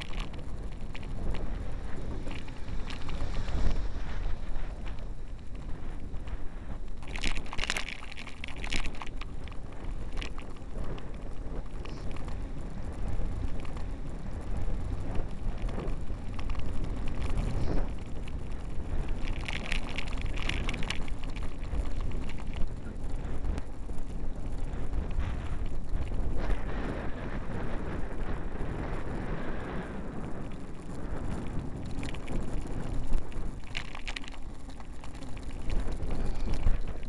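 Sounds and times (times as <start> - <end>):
crackly noise: 0.0 - 37.0
wind buffeting microphone: 0.0 - 37.0.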